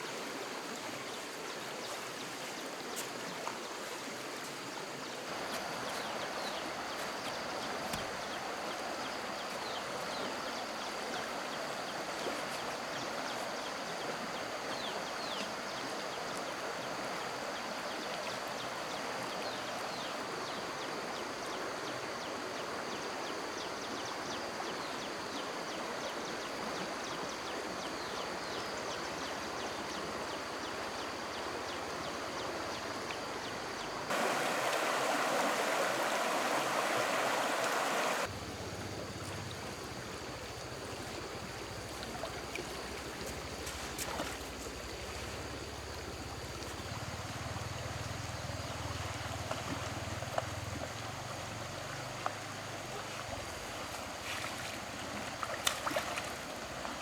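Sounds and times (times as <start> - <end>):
stream water rushing: 0.0 - 22.8, 29.0 - 57.0.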